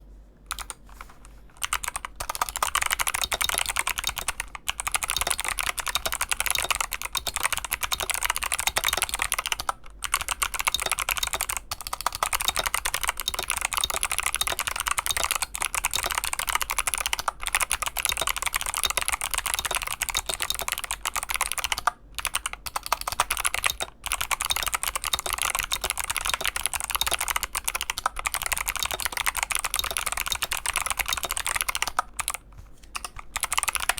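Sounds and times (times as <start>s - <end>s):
fast mechanical keyboard typing: 0.5s - 33.9s.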